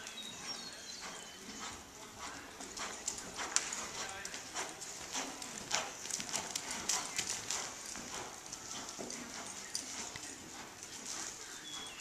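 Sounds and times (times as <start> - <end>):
horse hoofbeats in sand: 0.0 - 12.0.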